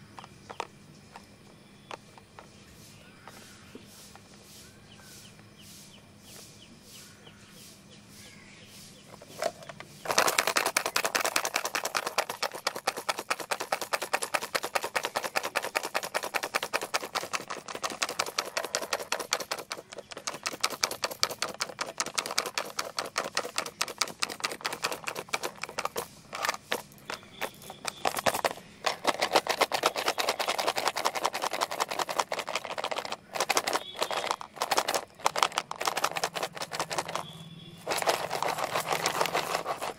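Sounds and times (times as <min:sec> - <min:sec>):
pencil box rattling: 0:00.0 - 0:01.3, 0:09.1 - 0:39.9.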